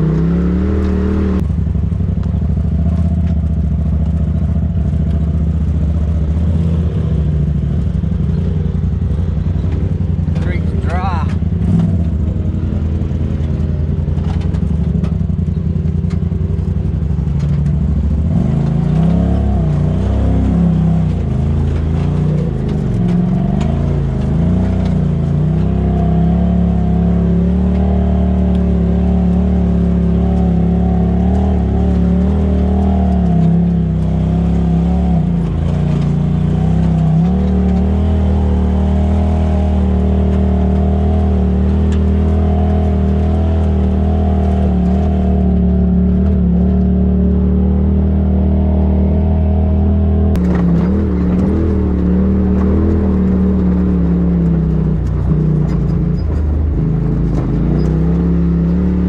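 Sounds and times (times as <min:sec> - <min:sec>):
engine revving: 0:00.0 - 0:01.6, 0:02.2 - 0:59.0.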